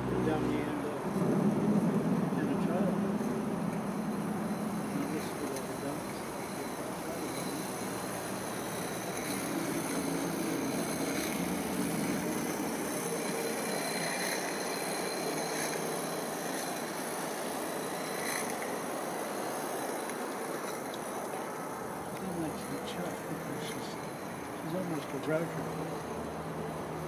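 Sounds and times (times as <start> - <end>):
small steam tram running: 0.0 - 27.0
wheels on rails: 0.0 - 27.0.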